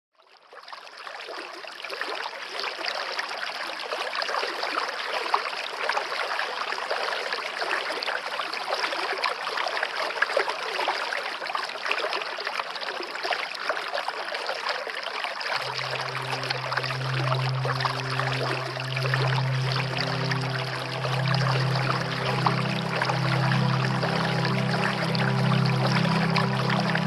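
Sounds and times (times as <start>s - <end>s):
stream babbling and splashing: 0.2s - 27.0s.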